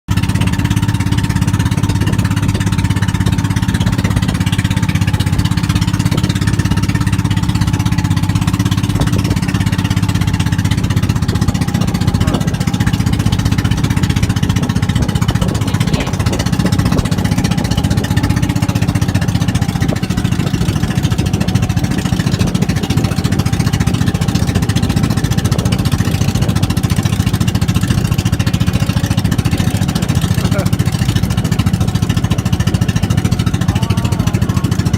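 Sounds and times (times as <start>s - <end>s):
boat engine rattling: 0.1s - 34.9s.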